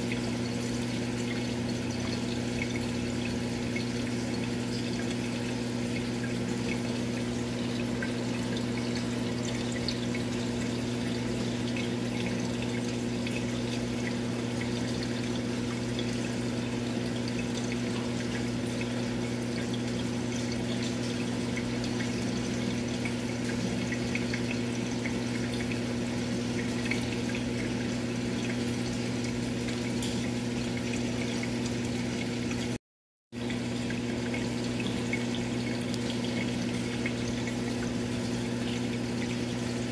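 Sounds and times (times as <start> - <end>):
aquarium pump humming: 0.0 - 32.8, 33.4 - 39.9
water trickling: 0.0 - 32.8, 33.4 - 39.9.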